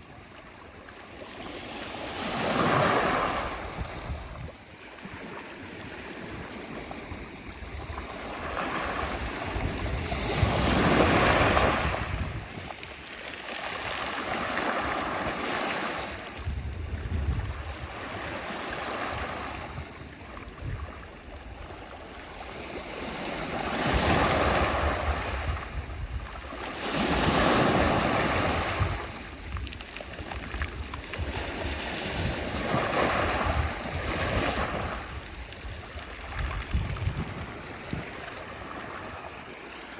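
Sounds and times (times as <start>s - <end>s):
sea waves breaking ashore: 1.1s - 39.9s.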